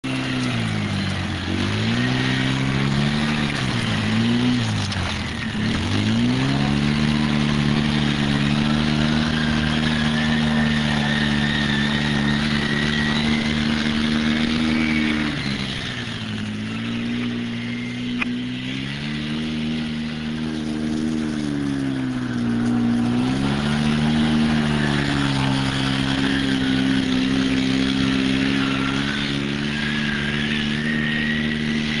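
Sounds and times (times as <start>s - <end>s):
off-road vehicle engine revving: 0.0s - 32.0s
thin high whine: 0.1s - 32.0s.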